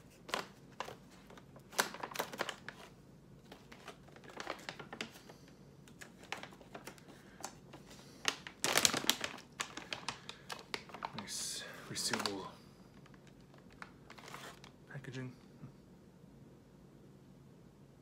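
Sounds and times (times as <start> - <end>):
snack bag crinkling: 0.0 - 14.8.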